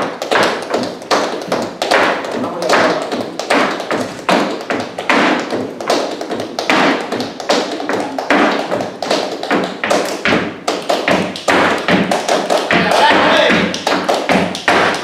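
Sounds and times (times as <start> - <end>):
dance shoes tapping on stage floor: 0.0 - 15.0.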